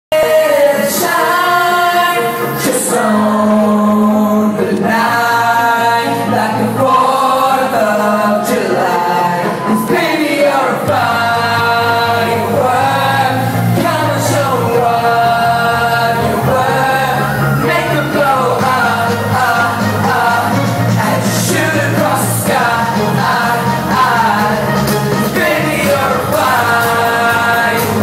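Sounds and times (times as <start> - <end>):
amplified pop backing track: 0.1 - 28.0
man singing into microphone: 0.1 - 28.0.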